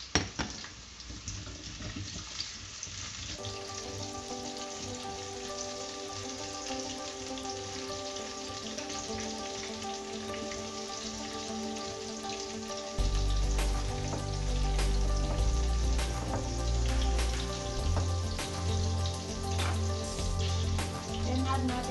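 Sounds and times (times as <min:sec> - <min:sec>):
vegetables sizzling in hot oil: 0:00.0 - 0:21.9
soft background music: 0:03.4 - 0:21.9.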